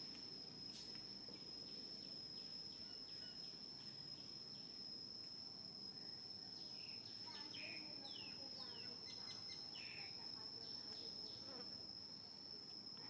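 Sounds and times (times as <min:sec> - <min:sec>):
high-pitched insect drone: 0:00.0 - 0:13.0
soft outdoor background hiss: 0:00.0 - 0:13.0.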